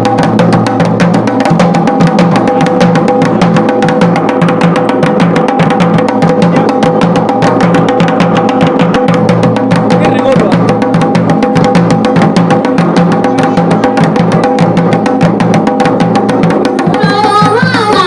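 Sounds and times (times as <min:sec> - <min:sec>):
drum played fast: 0:00.0 - 0:18.0.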